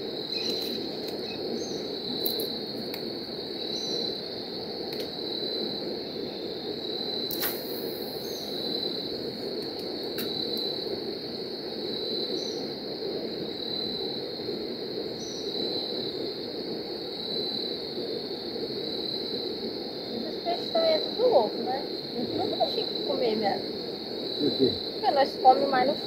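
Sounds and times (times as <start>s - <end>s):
low rushing hiss: 0.0s - 26.0s.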